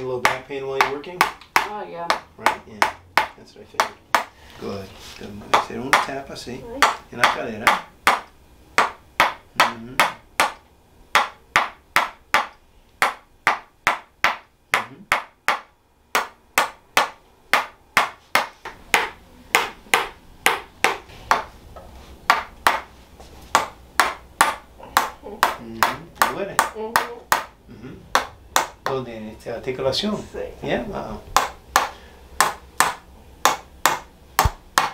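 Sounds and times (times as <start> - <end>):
mallet tapping wooden wedge: 0.0 - 4.3, 5.5 - 6.1, 6.8 - 22.9, 23.5 - 29.0, 31.4 - 34.9.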